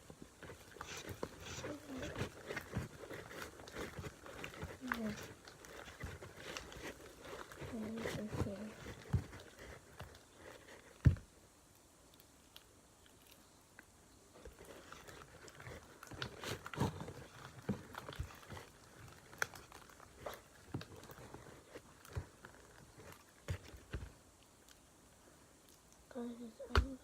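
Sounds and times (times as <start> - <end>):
slime squelching: 0.0 - 11.2, 14.3 - 27.0.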